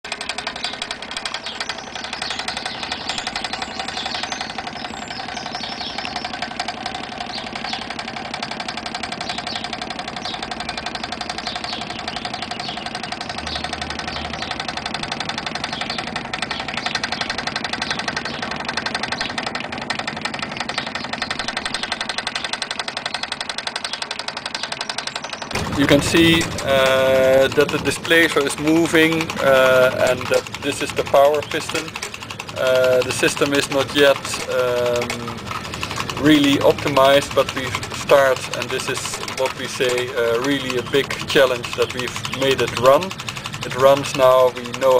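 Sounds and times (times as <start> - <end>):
engine mechanical knock: 0.0 - 44.9.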